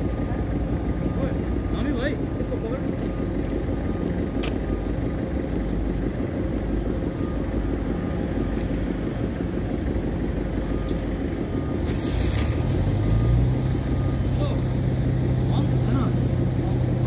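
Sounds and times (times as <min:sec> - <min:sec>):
construction machinery engine rumbling: 0:00.0 - 0:17.0.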